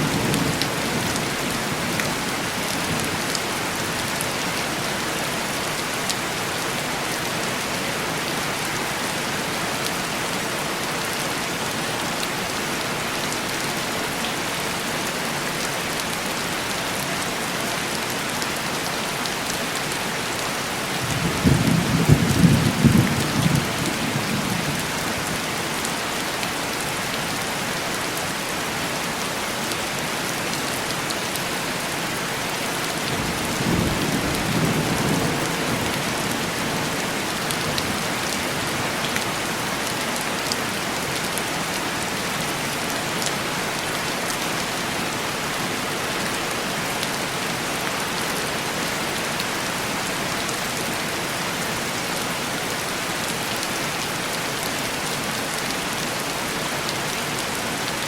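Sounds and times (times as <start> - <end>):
heavy rain on a window: 0.0 - 58.0.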